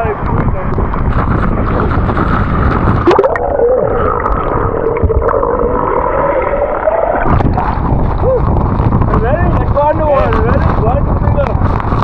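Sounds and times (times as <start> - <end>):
wind across microphone: 0.0 - 12.0.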